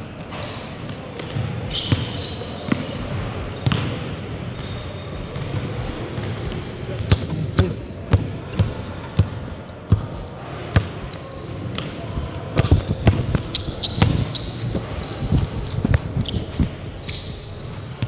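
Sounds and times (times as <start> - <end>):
sneaker squeaks: 0.0 - 18.0
basketballs bouncing on wood floor: 1.2 - 11.1, 11.8 - 18.0.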